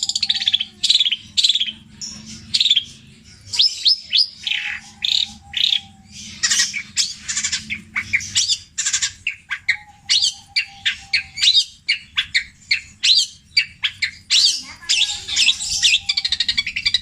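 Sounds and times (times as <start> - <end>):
shrike singing varied calls: 0.0 - 17.0.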